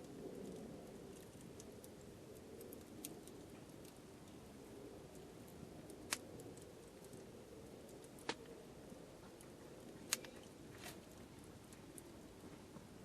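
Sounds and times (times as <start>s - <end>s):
campfire crackling pops: 0.0s - 8.6s, 9.2s - 12.9s
faint steady hiss: 0.0s - 13.0s.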